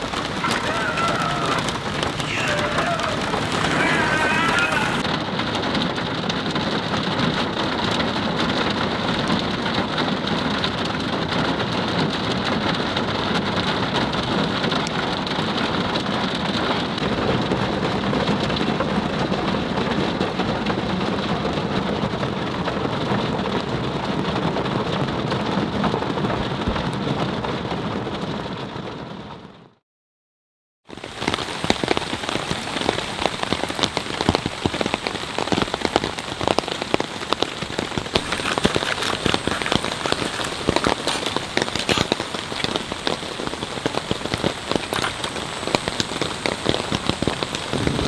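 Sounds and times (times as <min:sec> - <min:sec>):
heavy rain pouring: 0:00.0 - 0:28.9, 0:30.9 - 0:48.0.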